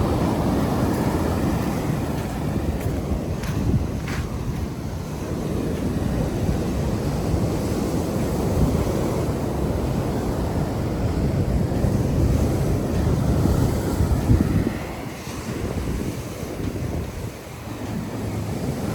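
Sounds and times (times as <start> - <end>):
sea surf breaking: 0.0 - 18.9
wind rumbling on microphone: 0.0 - 18.9.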